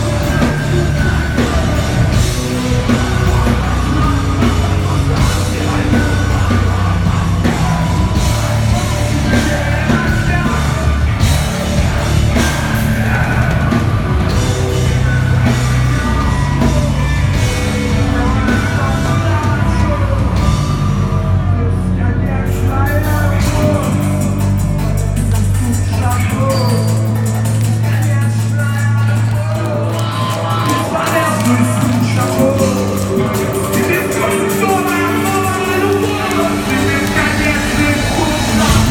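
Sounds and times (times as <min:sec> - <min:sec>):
bass: 0:00.0 - 0:38.9
distorted guitars: 0:00.0 - 0:38.9
drum kit: 0:00.0 - 0:38.9.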